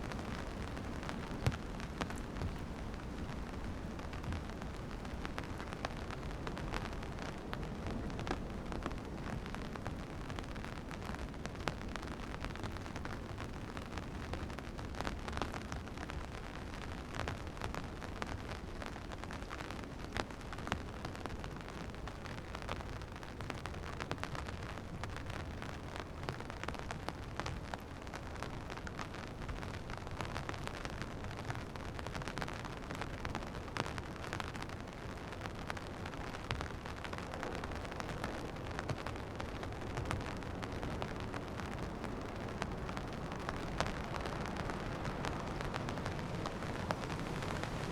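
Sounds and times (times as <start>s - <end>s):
continuous low rumble: 0.0s - 47.9s
raindrops tapping close by: 0.0s - 47.9s
steady rain: 0.0s - 47.9s.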